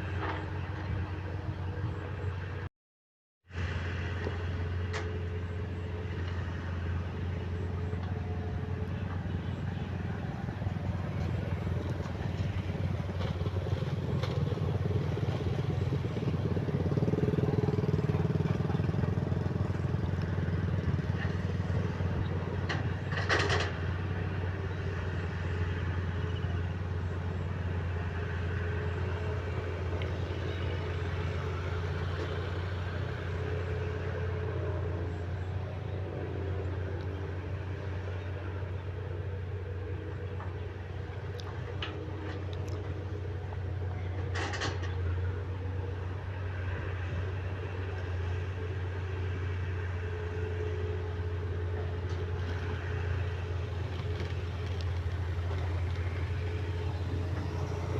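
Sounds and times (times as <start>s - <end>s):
heavy diesel machinery droning: 0.0s - 2.7s, 3.5s - 57.9s.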